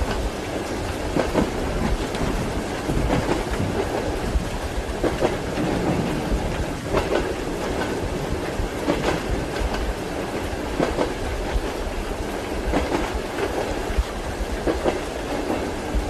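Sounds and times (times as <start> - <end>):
railway carriage rumbling: 0.0 - 16.0
wheels clacking over rail joints: 0.0 - 16.0.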